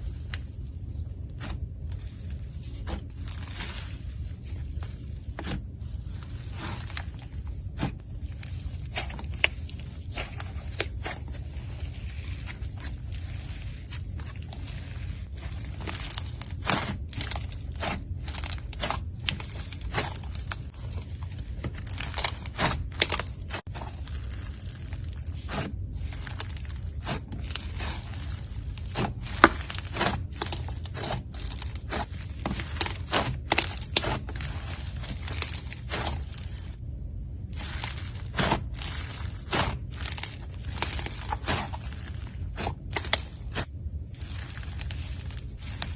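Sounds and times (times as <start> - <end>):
slime squishing and crackling: 0.0 - 45.9
steady low hum: 0.0 - 45.9.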